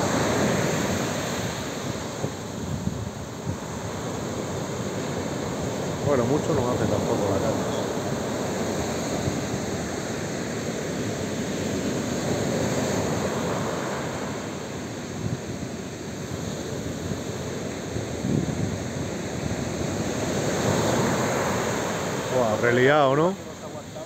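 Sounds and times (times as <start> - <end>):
wind rumbling on microphone: 0.0 - 22.4
surf washing up beach: 0.0 - 24.0.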